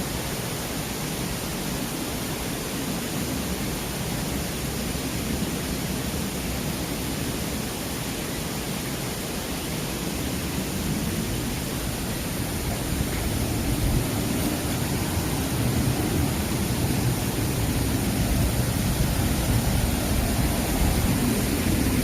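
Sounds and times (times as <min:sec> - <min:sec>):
stream rushing: 0:00.0 - 0:22.0.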